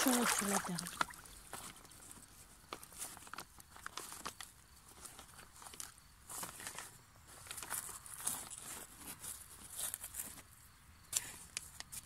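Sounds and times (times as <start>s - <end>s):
plastic liner crinkling: 0.0s - 10.4s.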